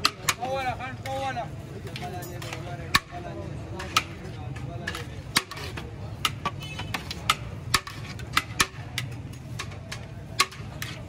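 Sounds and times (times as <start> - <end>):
metal spoons clinking against pots: 1.8 - 11.0.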